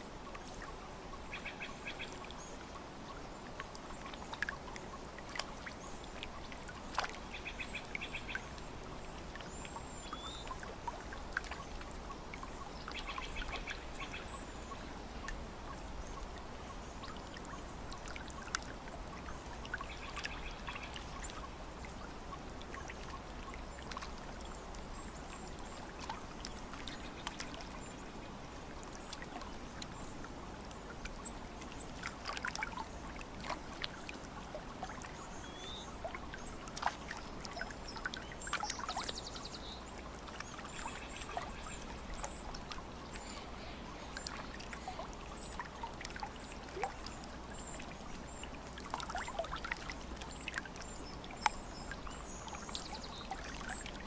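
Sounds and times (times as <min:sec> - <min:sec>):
water lapping at shore: 0:00.0 - 0:54.0.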